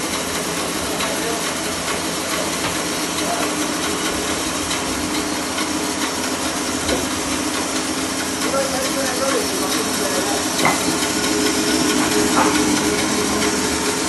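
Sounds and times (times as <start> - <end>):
woodworking machine humming: 0.0 - 14.0.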